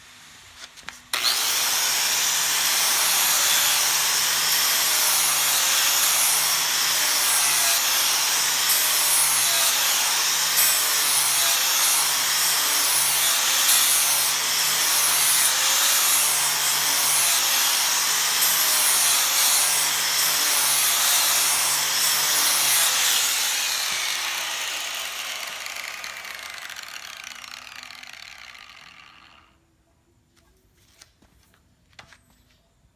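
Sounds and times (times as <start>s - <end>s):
electric sander sanding: 1.1s - 29.5s.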